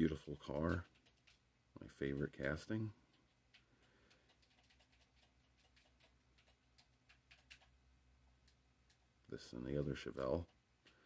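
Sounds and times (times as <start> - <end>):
faint irregular ticks: 0.0 - 11.0.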